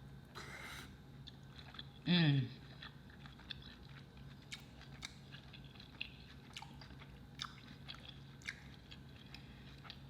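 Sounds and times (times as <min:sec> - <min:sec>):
person chewing with wet clicks: 0:01.2 - 0:10.0.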